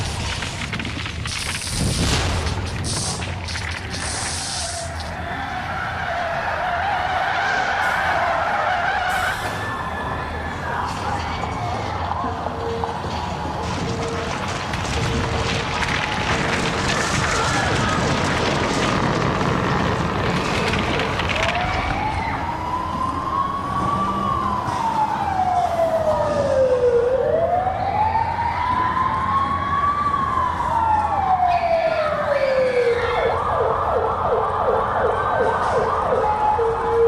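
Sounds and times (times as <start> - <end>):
constant rumbling din: 0.0 - 37.0
emergency siren wailing: 0.0 - 37.0.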